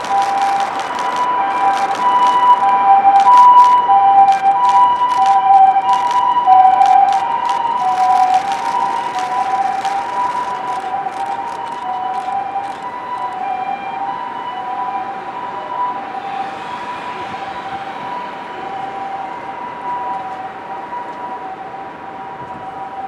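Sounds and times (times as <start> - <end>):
city traffic hum: 0.0 - 23.0
two-tone ambulance siren: 0.0 - 23.0.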